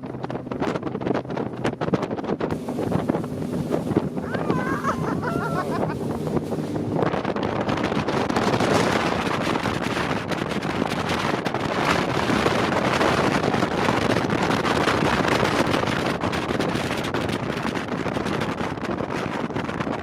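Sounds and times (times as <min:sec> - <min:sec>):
speedboat running: 0:00.0 - 0:20.0
water: 0:00.0 - 0:20.0
wind noise on microphone: 0:00.0 - 0:20.0.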